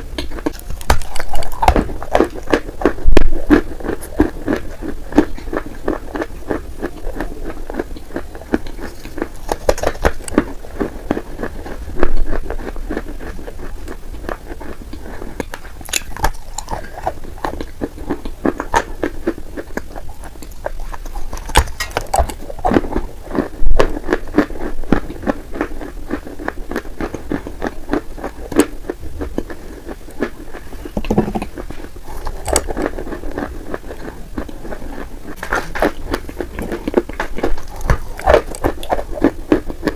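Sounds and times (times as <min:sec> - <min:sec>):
chewing crunchy clay: 0:00.0 - 0:39.9.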